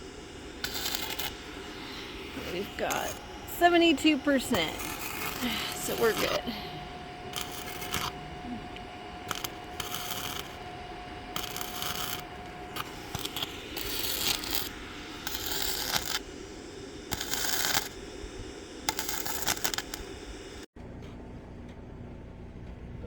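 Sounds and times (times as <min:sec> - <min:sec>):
welding arc crackling and sizzling: 0:00.0 - 0:20.7.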